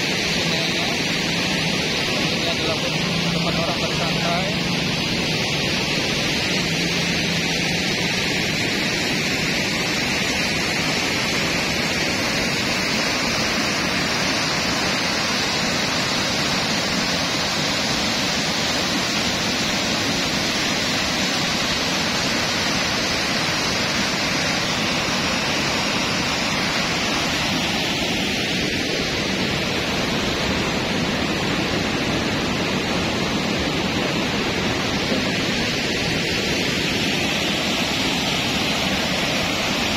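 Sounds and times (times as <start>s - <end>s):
river roaring over rapids: 0.0s - 39.9s.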